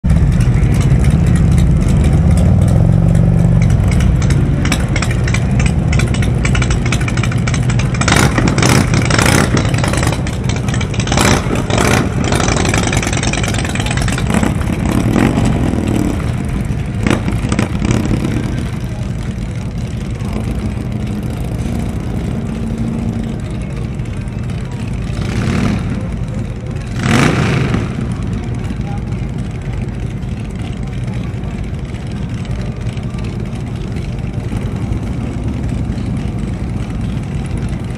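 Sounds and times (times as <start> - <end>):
motorcycle engines rumbling and revving: 0.0 - 37.9.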